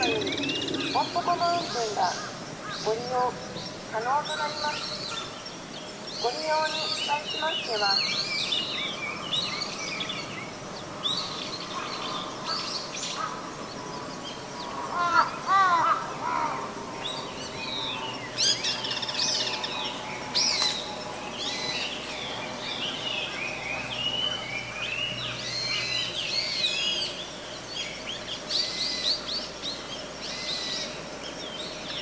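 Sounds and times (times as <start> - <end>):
outdoor ambience: 0.0 - 32.0
small birds chirping: 0.0 - 32.0.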